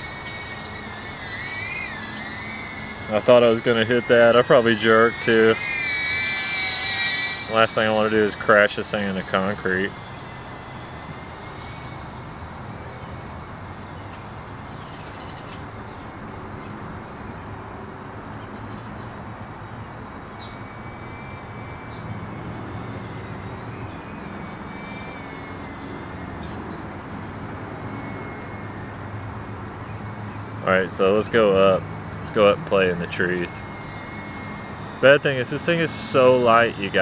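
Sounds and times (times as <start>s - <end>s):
drone buzzing whine: 0.0s - 37.0s.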